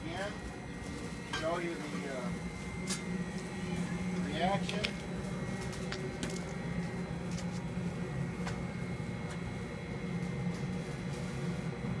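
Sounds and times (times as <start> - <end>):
high whine: 0.0 - 12.0
low mechanical hum: 0.0 - 12.0.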